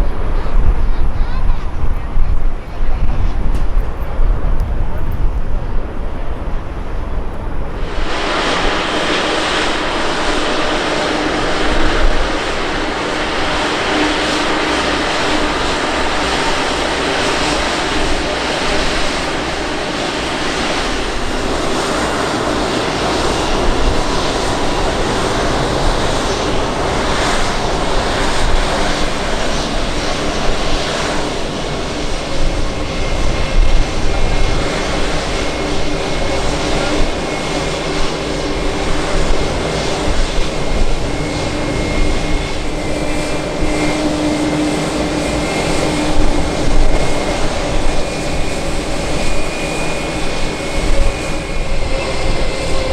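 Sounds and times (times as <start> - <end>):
loud airplane engine noise: 0.0 - 52.9.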